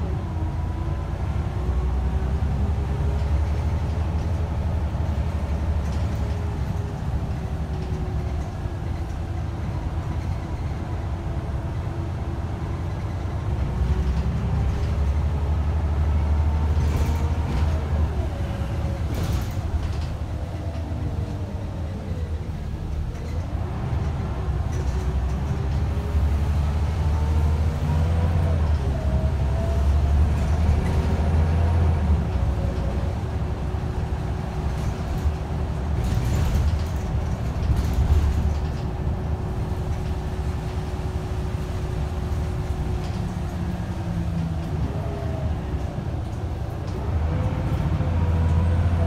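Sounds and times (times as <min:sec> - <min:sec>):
bus diesel engine rumble: 0:00.0 - 0:49.0.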